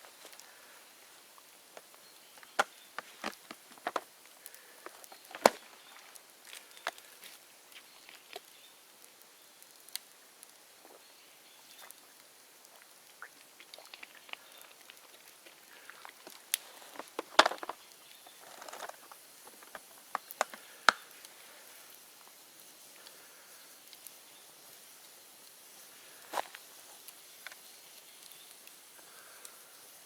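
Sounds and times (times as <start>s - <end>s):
bonfire crackling and popping: 0.0s - 30.0s
low fire hiss: 0.0s - 30.0s.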